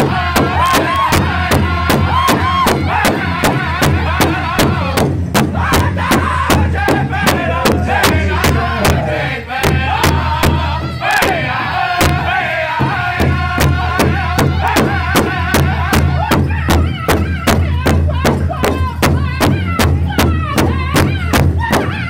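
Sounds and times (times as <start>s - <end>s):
group singing in high voices: 0.0s - 22.0s
large hide drum beating: 0.0s - 22.0s.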